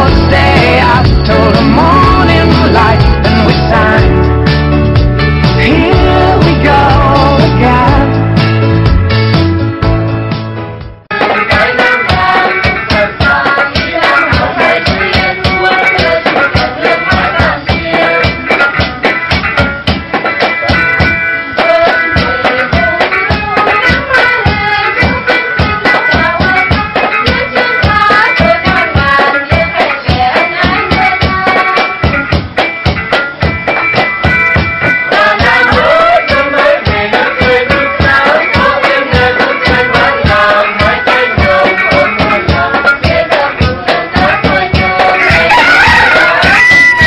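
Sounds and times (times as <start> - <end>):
instrumental music with fast beat: 0.0 - 47.0.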